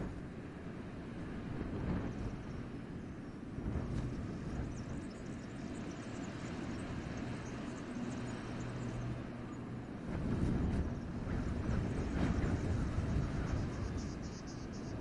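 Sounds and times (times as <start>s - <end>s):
wind gusting through trees: 0.0s - 15.0s.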